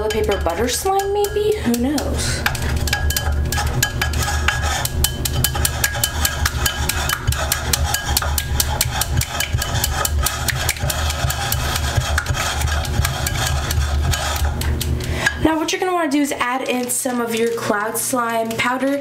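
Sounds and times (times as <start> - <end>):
chopstick stirring slime: 0.0 - 19.0.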